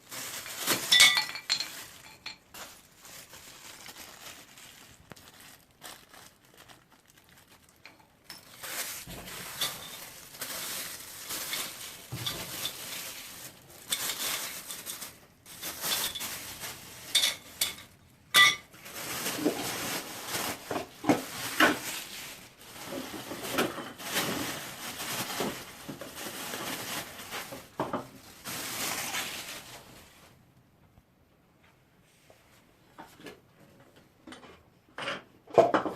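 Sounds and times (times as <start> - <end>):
packaging rustling and scraping: 0.0 - 18.0, 18.6 - 30.4.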